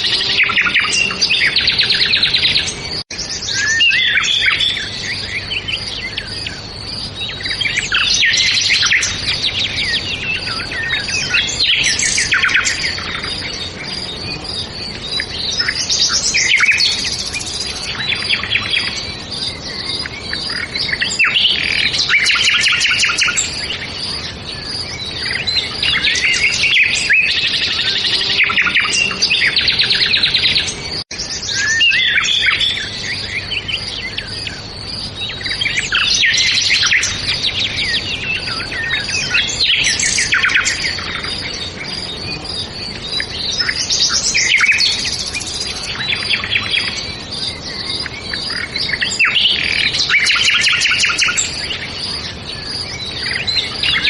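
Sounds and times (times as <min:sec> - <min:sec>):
songbirds chorus chirping and trilling: 0:00.0 - 0:54.0.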